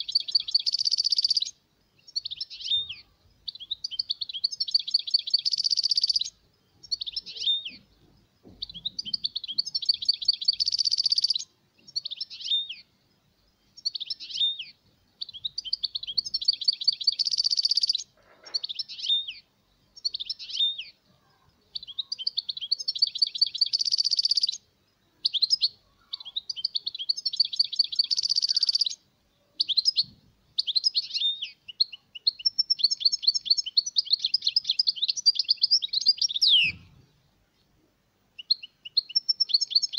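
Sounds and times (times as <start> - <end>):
goldfinch twittering song: 0.0 - 12.9, 13.6 - 19.4, 21.8 - 24.6, 25.2 - 29.0, 29.6 - 37.2, 38.4 - 39.9.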